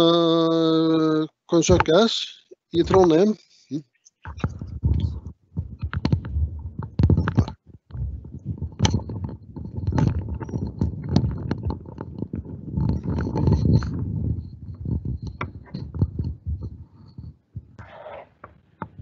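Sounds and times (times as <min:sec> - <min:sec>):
handling noise on microphone: 0:02.8 - 0:03.2, 0:04.2 - 0:19.0.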